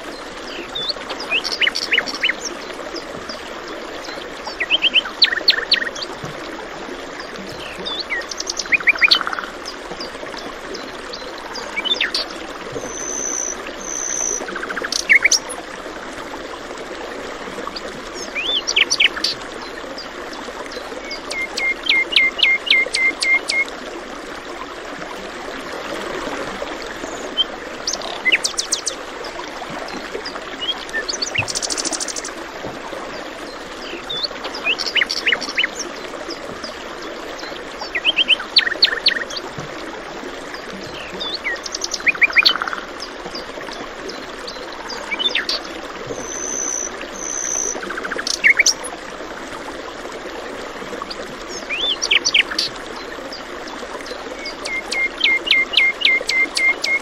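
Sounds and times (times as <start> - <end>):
running stream water: 0.0 - 57.0.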